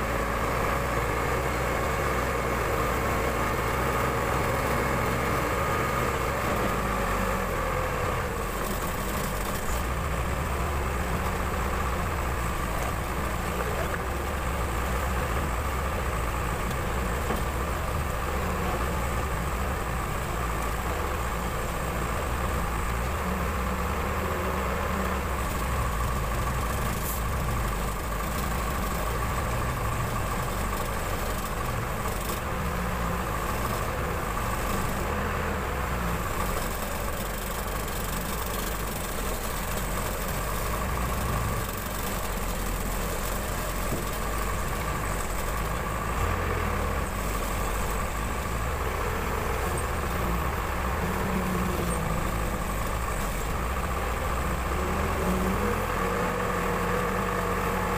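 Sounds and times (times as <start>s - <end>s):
diesel engine running: 0.0s - 57.9s
steady engine whine: 0.0s - 57.9s.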